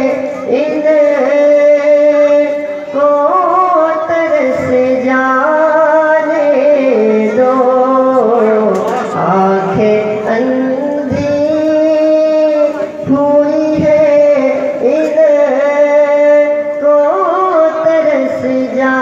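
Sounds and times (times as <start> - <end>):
young man singing into microphone: 0.0 - 19.0.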